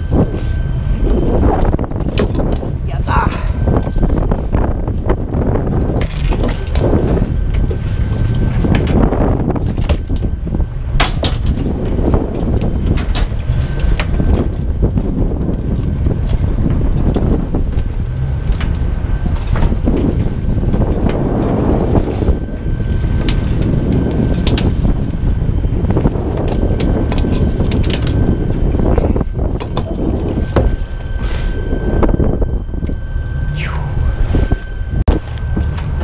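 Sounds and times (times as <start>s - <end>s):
boat engine rumble: 0.0s - 36.0s
wind buffeting microphone: 0.0s - 36.0s.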